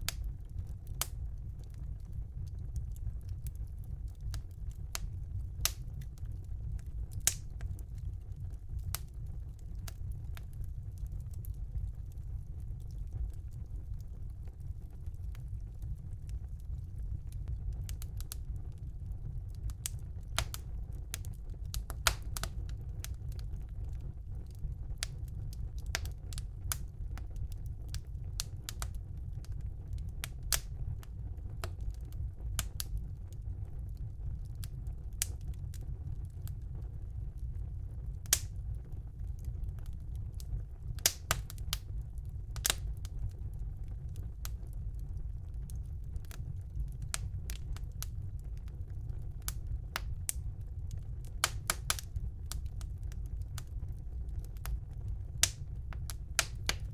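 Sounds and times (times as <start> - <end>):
fire rumbling: 0.0 - 56.9
logs crackling and popping: 0.0 - 56.9.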